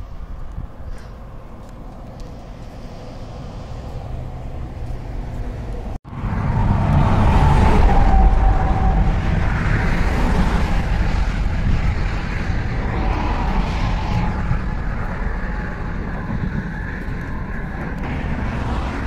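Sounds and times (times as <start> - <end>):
low rumble of vehicle noise: 0.0 - 19.0.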